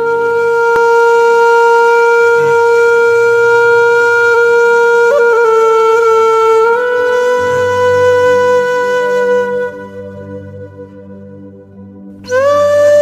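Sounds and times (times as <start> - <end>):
wind instrument holding a note: 0.0 - 11.5.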